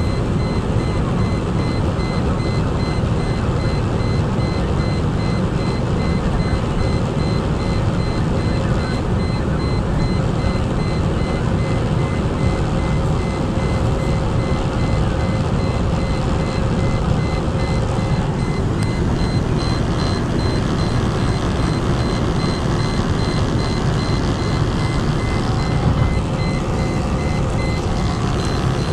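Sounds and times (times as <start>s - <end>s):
car engine: 0.0s - 28.9s
rapidly pulsing high tone: 0.0s - 28.9s
wind and road noise: 0.0s - 28.9s.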